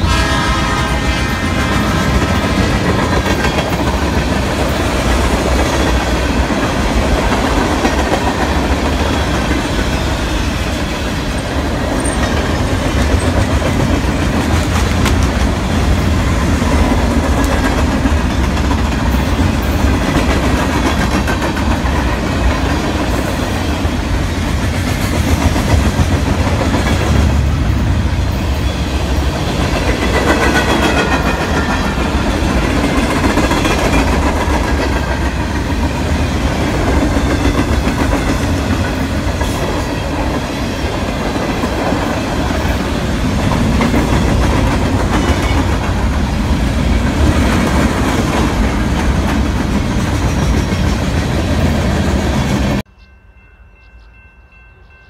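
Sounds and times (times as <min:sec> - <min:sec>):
train wheels rolling on rails: 0:00.0 - 0:52.9.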